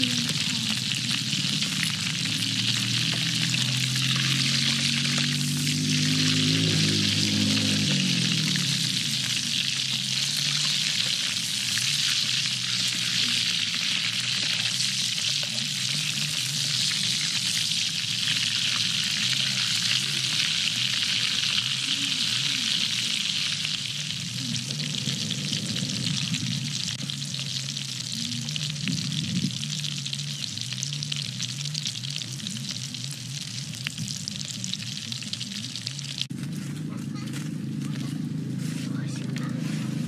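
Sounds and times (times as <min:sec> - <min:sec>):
oil sizzling in wok: 0:00.0 - 0:36.3.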